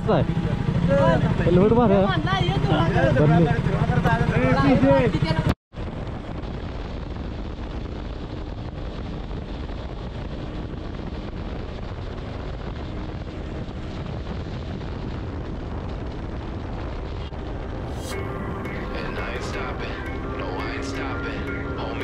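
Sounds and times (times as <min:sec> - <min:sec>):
motorcycle road noise: 0:00.0 - 0:22.0
wind rush: 0:00.2 - 0:22.0.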